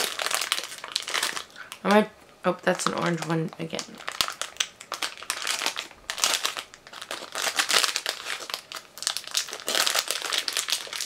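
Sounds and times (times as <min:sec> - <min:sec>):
plastic snack bag crinkling: 0:00.0 - 0:02.0, 0:02.6 - 0:11.0.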